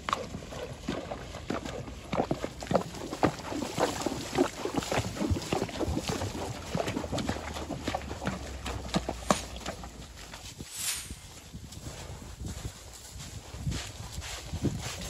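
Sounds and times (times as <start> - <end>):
hooves splashing through water: 0.0 - 15.0.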